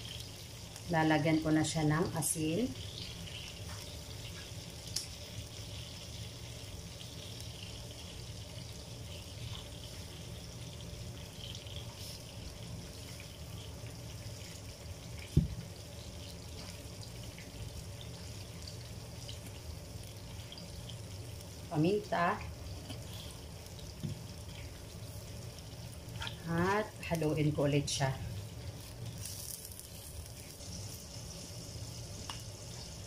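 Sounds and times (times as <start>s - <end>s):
coconut sizzling in frying pan: 0.0s - 33.0s.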